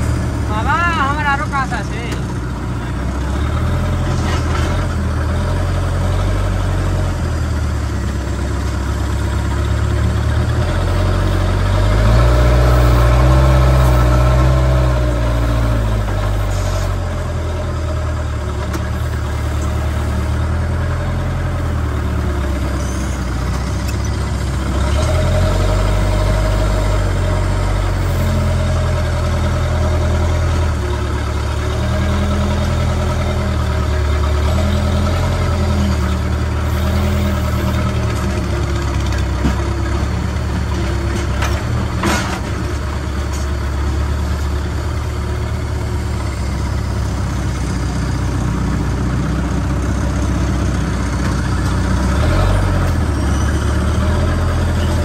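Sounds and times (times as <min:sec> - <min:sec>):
diesel engine running and revving: 0:00.0 - 0:55.0.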